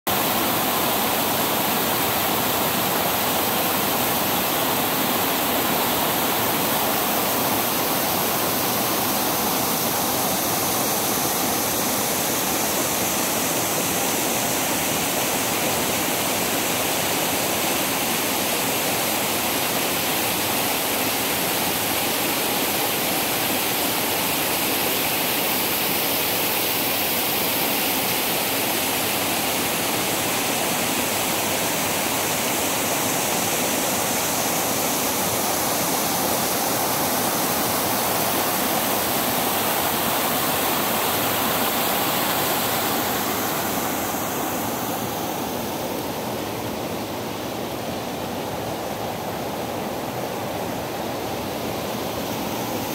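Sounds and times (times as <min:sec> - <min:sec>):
small waterfall splashing: 0:00.0 - 0:52.9.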